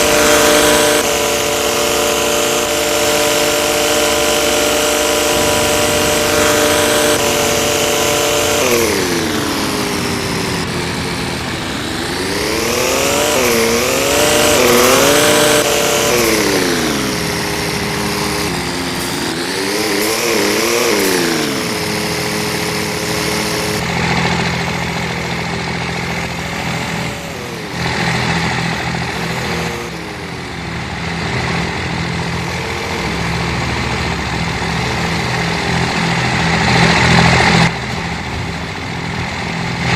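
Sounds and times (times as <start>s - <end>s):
engine idling: 0.0s - 39.9s
truck engines revving: 0.0s - 39.9s.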